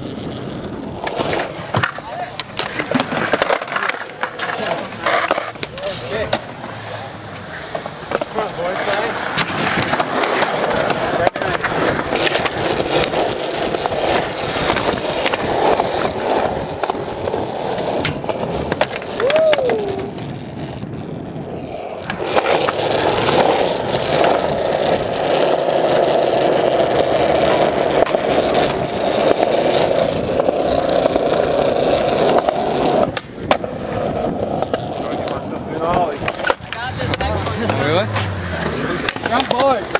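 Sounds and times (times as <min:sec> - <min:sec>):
skateboard clacking on ground: 0:00.0 - 0:39.9
skateboard wheels rolling on concrete: 0:00.0 - 0:39.9.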